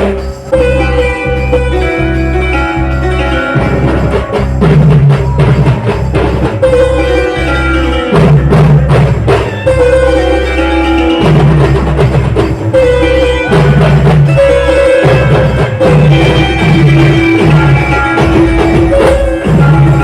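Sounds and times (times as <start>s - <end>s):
loud instrumental band music: 0.0s - 20.0s.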